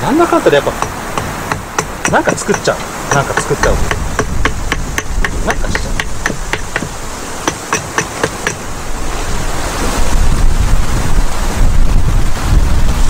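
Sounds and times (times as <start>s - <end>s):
wind buffeting microphone: 0.0s - 13.0s
wind rushing: 0.8s - 13.0s.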